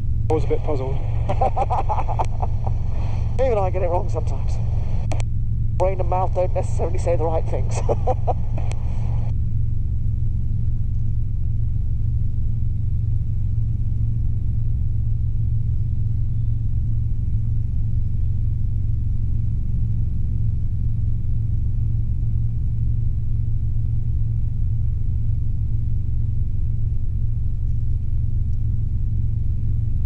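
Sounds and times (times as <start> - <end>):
helicopter engine and rotors droning: 0.0 - 27.3.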